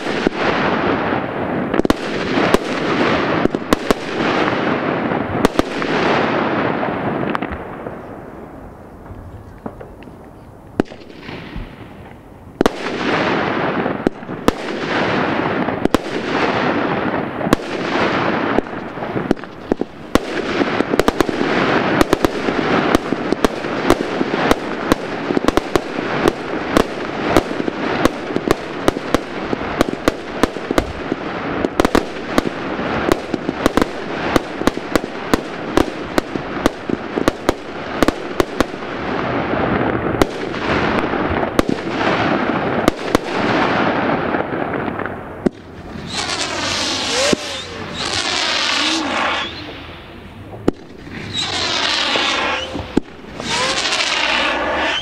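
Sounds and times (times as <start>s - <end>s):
firework bangs and crackling: 0.0s - 55.0s
firework hiss: 10.8s - 55.0s.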